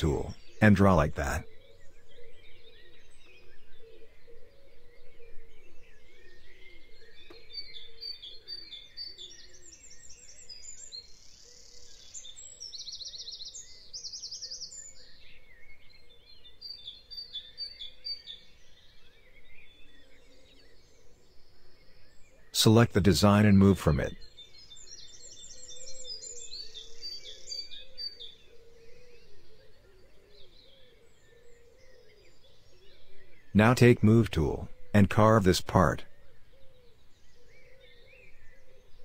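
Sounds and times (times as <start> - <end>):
birds chirping and singing: 0.0 - 39.0
faint steady background noise: 0.0 - 39.0.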